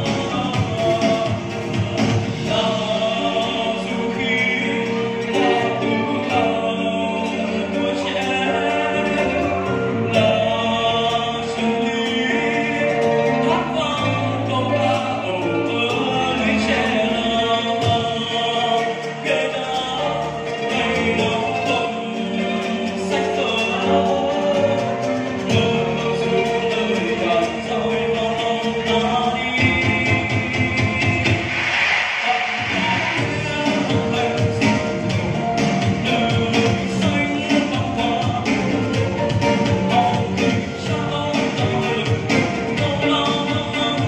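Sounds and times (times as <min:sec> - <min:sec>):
man singing into microphone: 0:00.0 - 0:31.6, 0:32.2 - 0:44.0
amplified backing music: 0:00.0 - 0:44.0.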